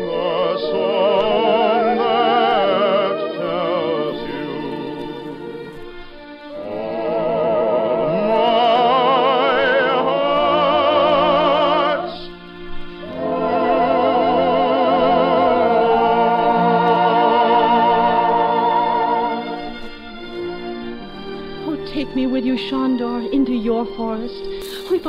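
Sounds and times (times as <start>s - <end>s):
operatic singing with vibrato: 0.0s - 25.0s
orchestra playing: 0.0s - 25.0s.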